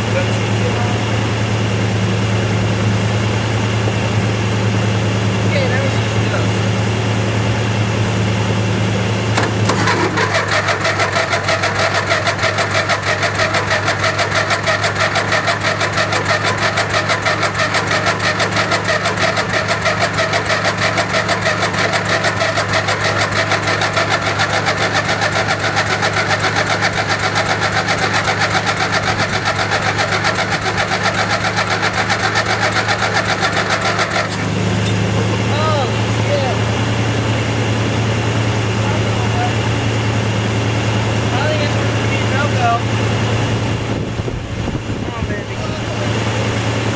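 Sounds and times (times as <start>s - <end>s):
starter motor cranking engine: 0.0s - 46.9s.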